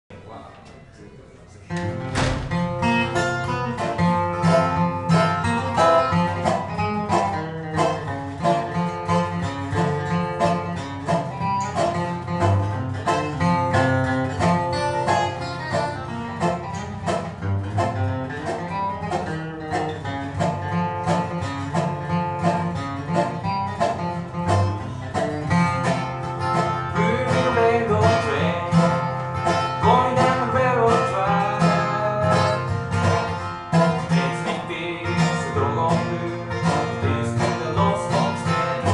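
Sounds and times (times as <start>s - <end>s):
picked dobro melody: 1.7s - 38.9s
strummed acoustic guitar: 1.7s - 38.9s.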